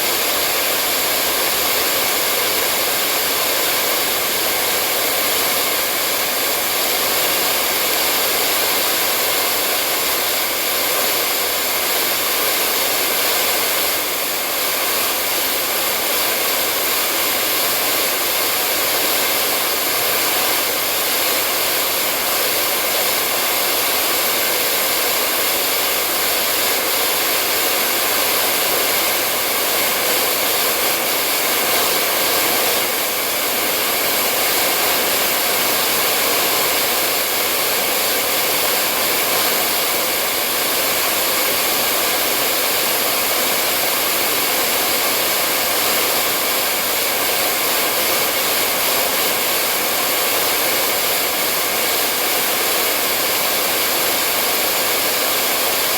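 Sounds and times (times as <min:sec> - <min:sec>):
hair dryer blowing air: 0:00.0 - 0:55.9.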